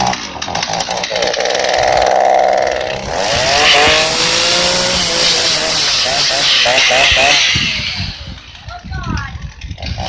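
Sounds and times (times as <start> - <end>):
chainsaw running at high revs: 0.0 - 10.0.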